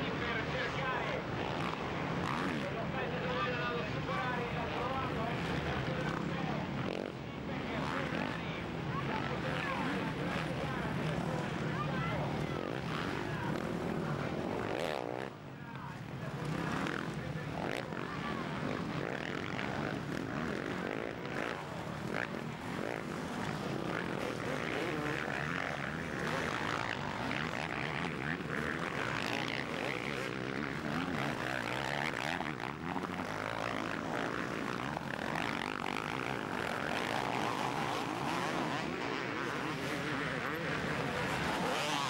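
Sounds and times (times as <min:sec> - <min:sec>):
motorcycle engines revving hard: 0:01.3 - 0:15.4, 0:16.2 - 0:42.0.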